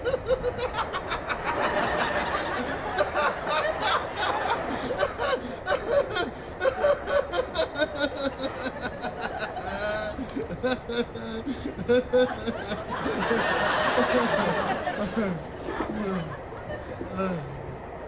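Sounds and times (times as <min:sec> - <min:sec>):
people laughing: 0:00.0 - 0:18.0.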